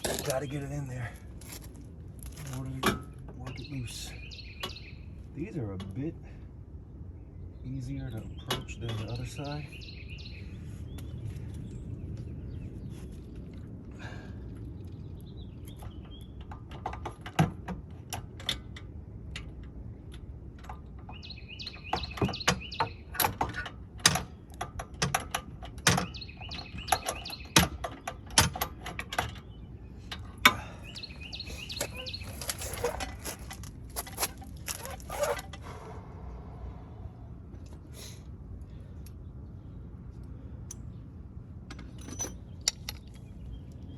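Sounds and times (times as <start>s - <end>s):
birds chirping: 0.0s - 1.2s, 2.5s - 16.6s, 20.0s - 23.6s, 25.8s - 43.9s.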